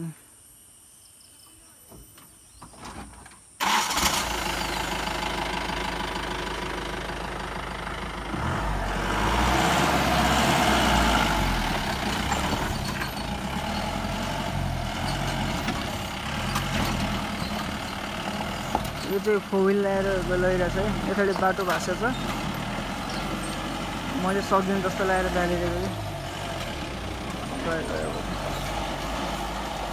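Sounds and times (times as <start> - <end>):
diesel engine under heavy load: 3.6 - 29.9.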